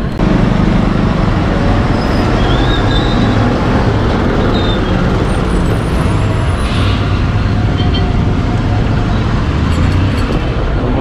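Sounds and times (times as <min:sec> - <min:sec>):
diesel engine low rumble: 0:00.0 - 0:11.0
street traffic: 0:00.0 - 0:11.0.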